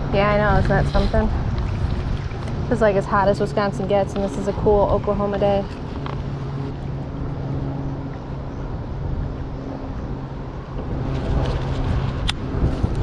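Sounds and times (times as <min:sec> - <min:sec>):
constant rumbling noise: 0:00.0 - 0:13.0
low mechanical hum: 0:00.0 - 0:13.0.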